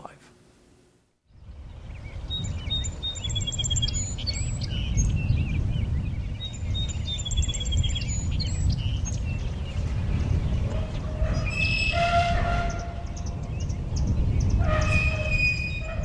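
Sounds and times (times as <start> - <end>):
birds chirping and trilling: 1.4 - 16.0.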